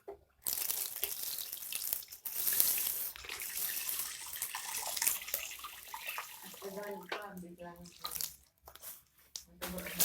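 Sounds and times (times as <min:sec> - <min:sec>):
water running from a tap: 0:00.4 - 0:08.5, 0:09.6 - 0:10.0.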